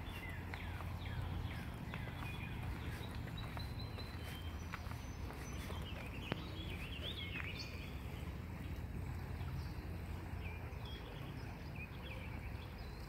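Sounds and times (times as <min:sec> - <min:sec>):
low outdoor rumble: 0:00.0 - 0:13.0
songbirds chirping: 0:00.0 - 0:13.0.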